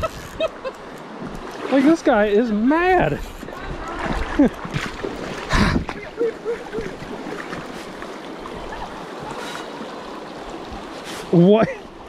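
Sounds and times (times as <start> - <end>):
fast river current rushing: 0.0 - 12.0.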